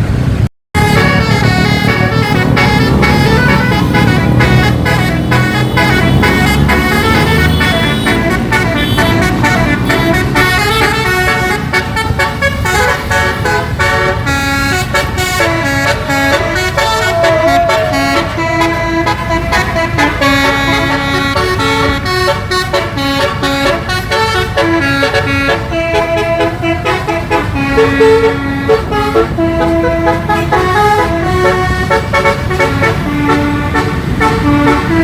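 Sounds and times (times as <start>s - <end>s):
multi-tone bus horn tune: 0.1s - 35.0s.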